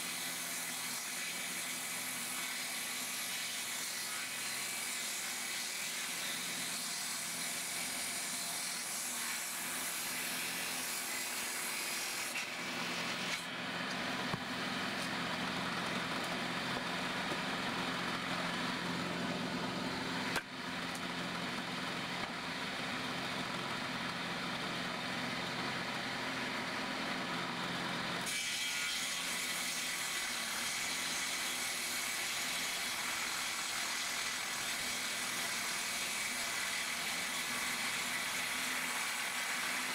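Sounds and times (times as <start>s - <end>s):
circular saw cutting logs: 0.0s - 39.9s.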